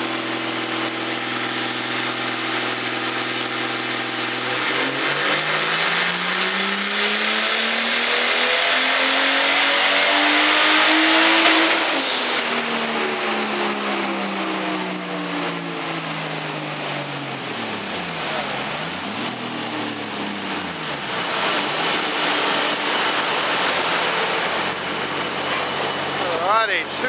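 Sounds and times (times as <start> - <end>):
dyno rollers winding down: 0.0 - 9.2, 10.2 - 27.0
car engine winding down: 0.0 - 27.0.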